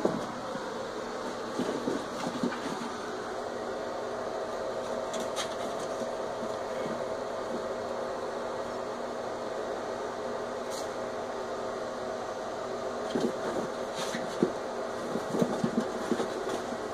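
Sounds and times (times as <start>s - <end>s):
steady hissing hum: 0.0s - 16.9s.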